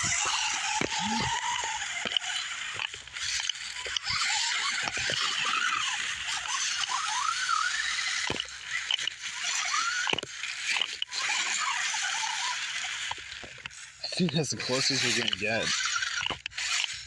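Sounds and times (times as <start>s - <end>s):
electric motor whining: 0.0s - 17.0s
tyres scrabbling on rock: 0.0s - 17.0s.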